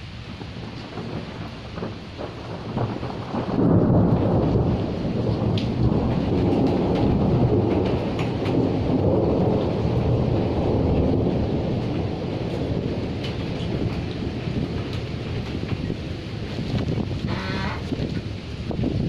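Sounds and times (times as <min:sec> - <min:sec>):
low roll of thunder: 0:00.0 - 0:19.0
raindrops ticking: 0:00.0 - 0:19.0
steady rain: 0:00.0 - 0:19.0.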